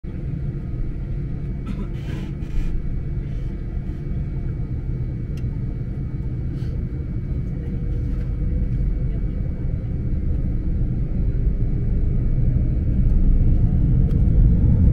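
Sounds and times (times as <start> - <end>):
airliner cabin low rumble: 0.0 - 14.9
high engine whine: 0.1 - 14.9.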